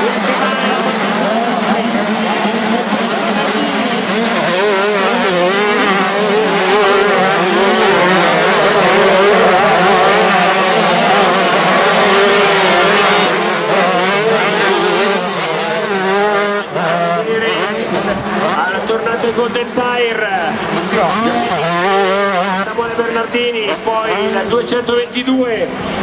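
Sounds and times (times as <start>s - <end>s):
motocross bikes engines revving: 0.0s - 26.0s.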